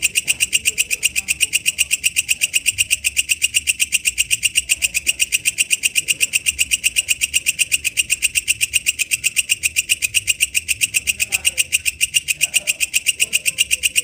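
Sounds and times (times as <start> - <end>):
insect calling with rapid clicks: 0.0 - 14.0.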